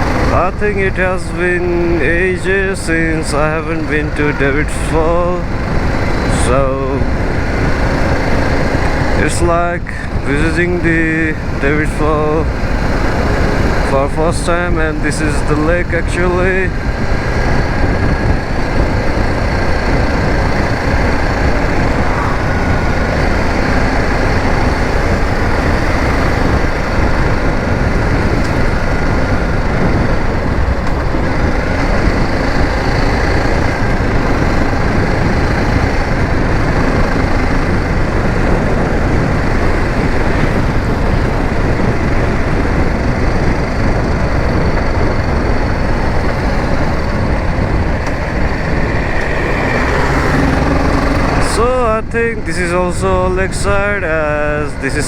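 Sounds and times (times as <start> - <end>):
motorcycle engine running: 0.0 - 55.0
wind rumble on microphone: 0.0 - 55.0.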